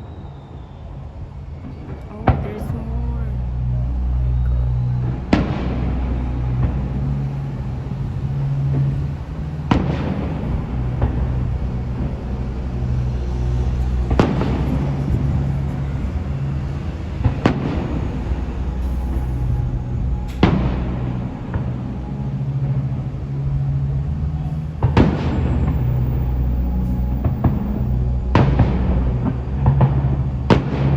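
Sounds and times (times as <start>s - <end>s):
low rumble: 0.0s - 30.9s.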